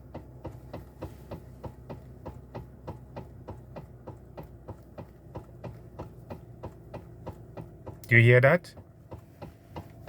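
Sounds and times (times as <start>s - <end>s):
car engine idling: 0.0s - 10.0s
steering column knocking: 0.0s - 10.0s.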